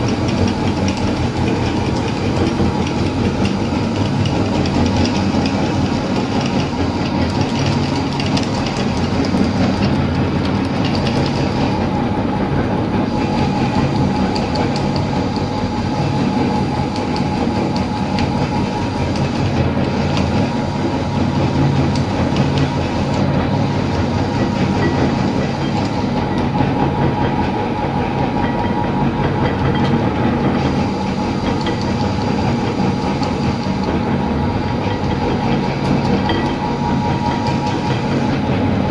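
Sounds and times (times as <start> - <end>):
electric meat grinder running: 0.0 - 38.9.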